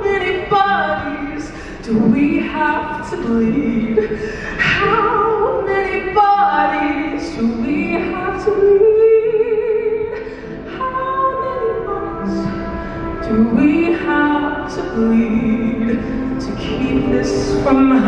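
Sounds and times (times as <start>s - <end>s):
woman singing into a microphone: 0.0s - 18.0s.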